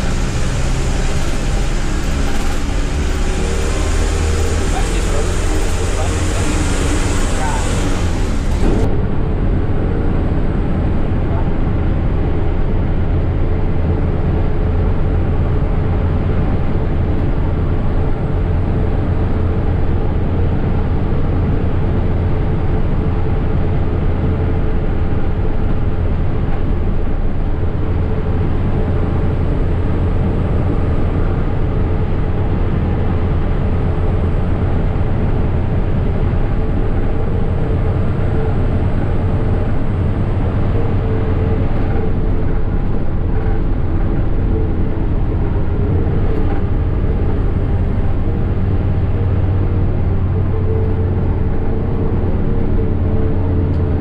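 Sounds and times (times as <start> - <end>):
bus engine hum: 0.0 - 54.0
tyre and road noise: 0.0 - 54.0.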